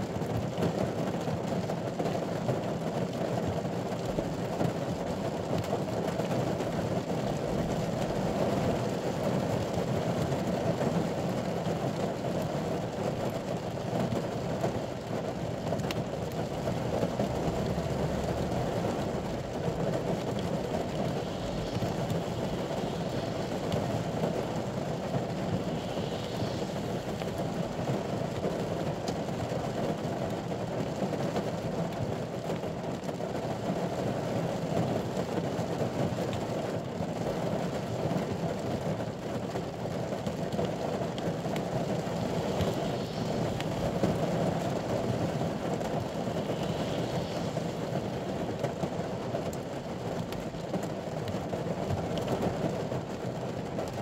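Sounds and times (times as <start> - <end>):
rain on car roof: 0.0 - 54.0.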